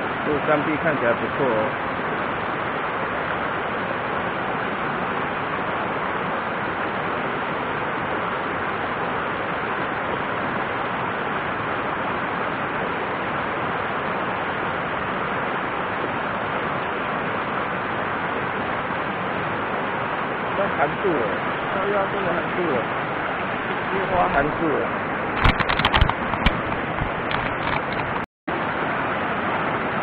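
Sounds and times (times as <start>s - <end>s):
stream rushing over boulders: 0.0s - 30.0s.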